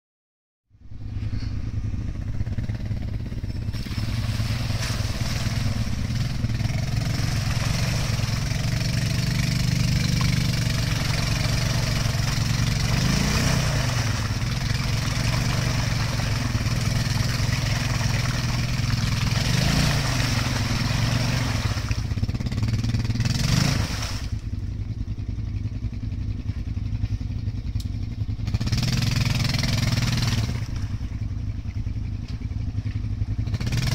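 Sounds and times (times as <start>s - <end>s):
atv engine revving under load: 1.0s - 24.6s, 26.8s - 33.9s.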